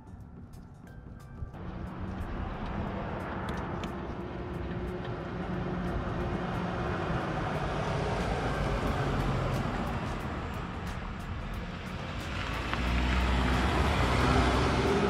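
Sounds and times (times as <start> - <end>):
distant engine drone: 1.6 - 15.0.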